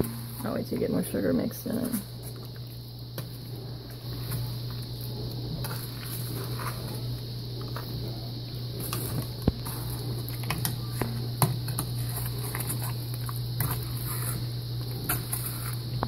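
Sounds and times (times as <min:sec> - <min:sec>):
masher squishing berries: 0:00.0 - 0:16.0.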